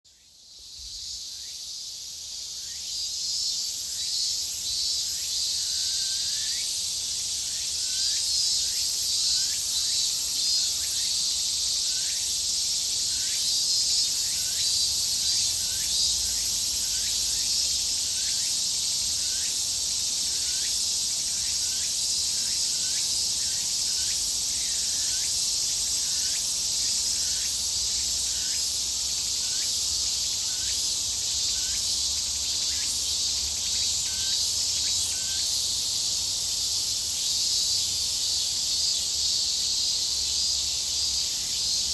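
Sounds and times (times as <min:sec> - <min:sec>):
cicadas chorus: 0:00.1 - 0:41.9.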